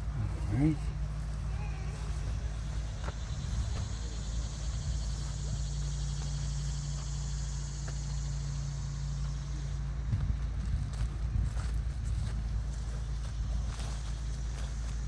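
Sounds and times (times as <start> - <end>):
faint footsteps on trail: 0.0 - 15.0
low rumble on microphone: 0.0 - 15.0.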